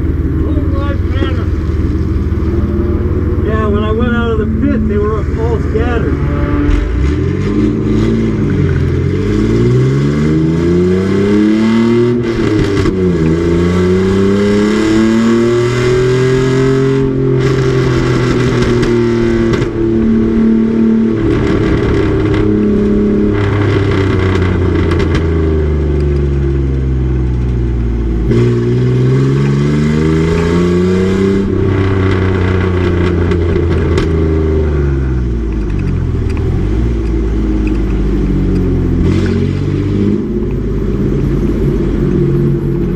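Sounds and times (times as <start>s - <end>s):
race truck engine revving: 0.0s - 26.5s, 28.2s - 42.9s.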